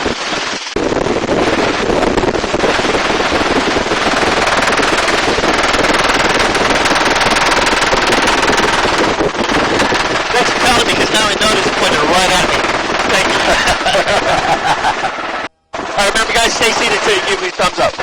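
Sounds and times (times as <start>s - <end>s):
helicopter rotor chop: 0.0s - 18.0s.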